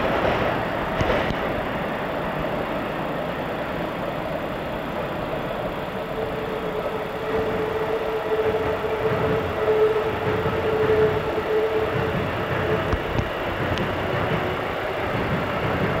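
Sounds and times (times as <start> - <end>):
electric train rumbling past: 0.0 - 16.0
steady high hum: 0.0 - 16.0.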